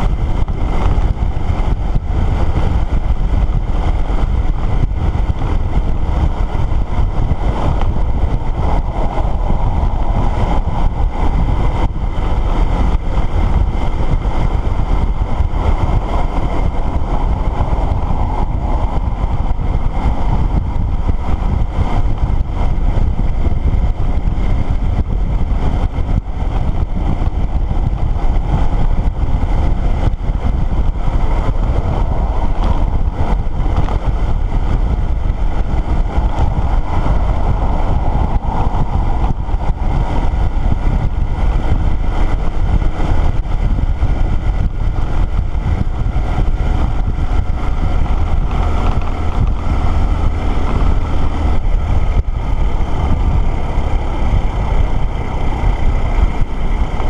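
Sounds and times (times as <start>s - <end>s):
motorcycle engine running: 0.0s - 57.0s
tyre and road noise: 0.0s - 57.0s
wind rumble on microphone: 0.0s - 57.0s.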